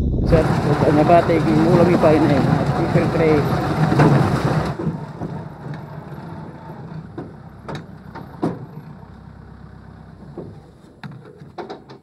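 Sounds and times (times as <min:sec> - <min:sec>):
tractor engine running: 0:00.0 - 0:12.0
metal trailer knocks and rattles: 0:00.4 - 0:12.0.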